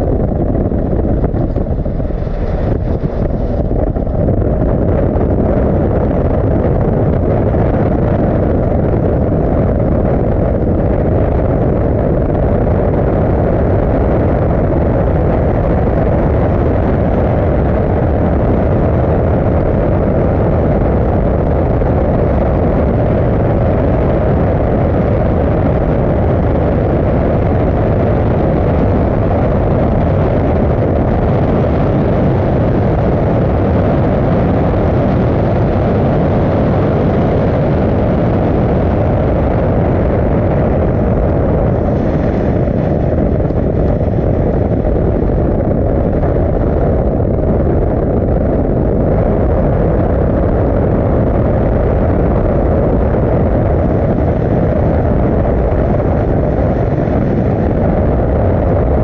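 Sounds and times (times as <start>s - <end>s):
car road noise at speed: 0.0s - 59.0s
loud wind rush: 0.0s - 59.0s.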